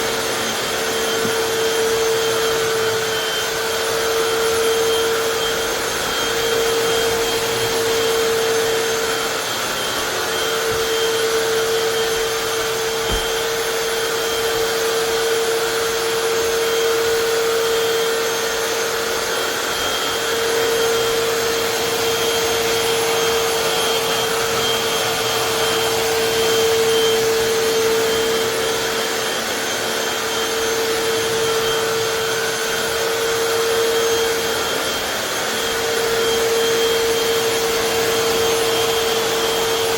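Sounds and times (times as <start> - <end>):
floor cleaner motor whining: 0.0 - 39.9.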